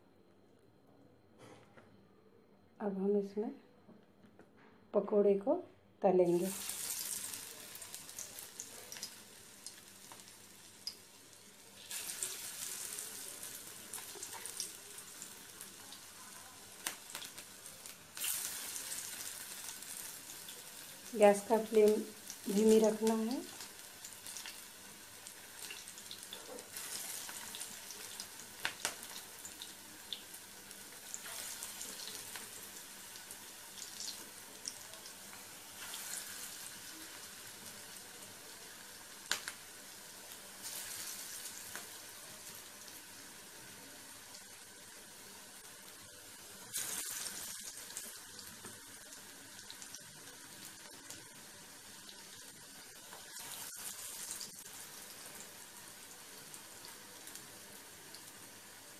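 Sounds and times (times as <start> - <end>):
batter sizzling in hot oil: 6.2 - 58.9.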